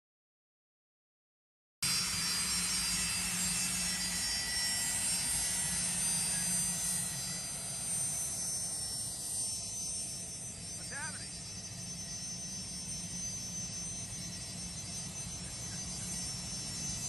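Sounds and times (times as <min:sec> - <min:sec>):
jet turbine whine: 0:01.8 - 0:17.0.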